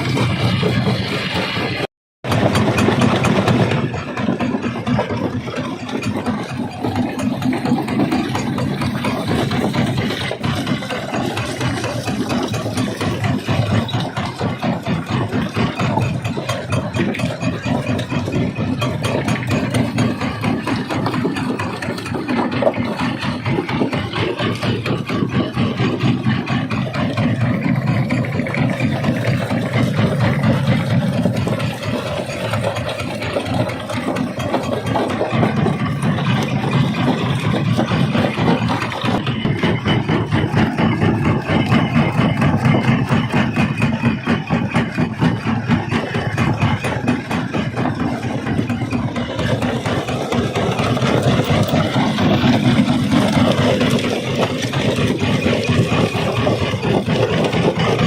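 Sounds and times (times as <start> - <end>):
rock crusher rumbling: 0.0 - 58.0.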